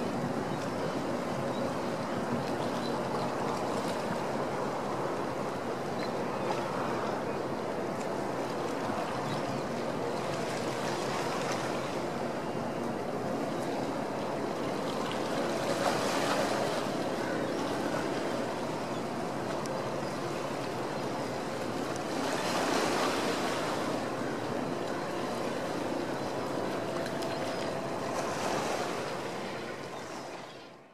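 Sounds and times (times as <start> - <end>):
faint low engine hum: 0.0 - 30.9
water: 0.0 - 30.9
wind: 0.0 - 30.9.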